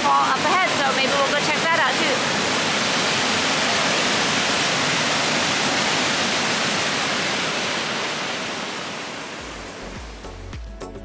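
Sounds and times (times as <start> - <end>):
waterfall rushing into pool: 0.0 - 10.2.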